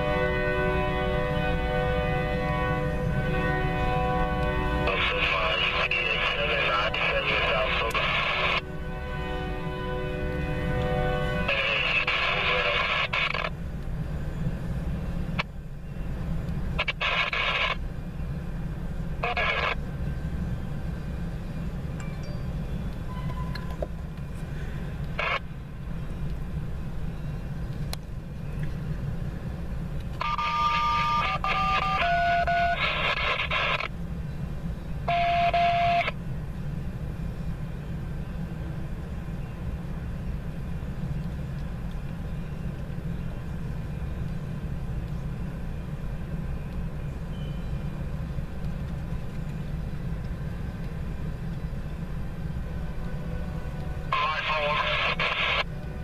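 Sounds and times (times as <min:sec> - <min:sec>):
freight train rumble: 0:00.0 - 0:56.0.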